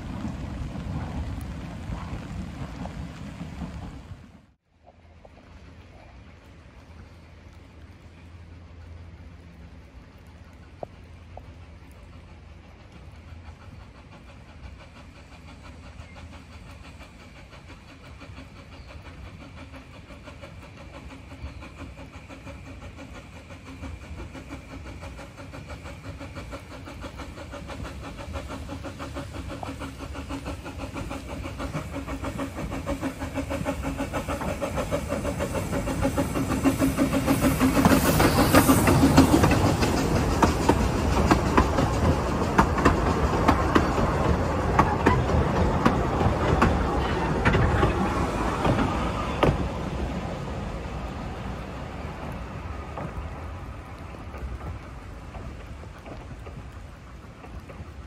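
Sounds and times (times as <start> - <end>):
steam train running past: 0.0 - 58.0.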